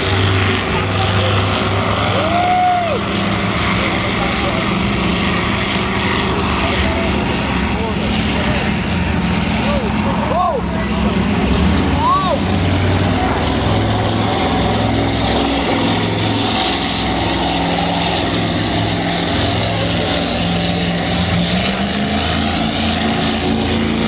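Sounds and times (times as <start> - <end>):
churned water rushing: 0.0 - 24.0
powerboat engines running hard: 0.0 - 24.0.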